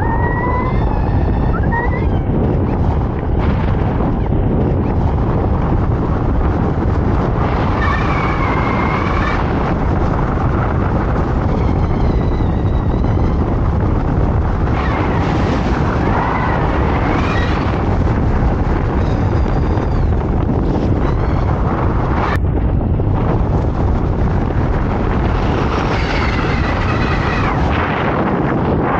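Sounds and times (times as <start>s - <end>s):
strong wind buffeting microphone: 0.0s - 28.9s.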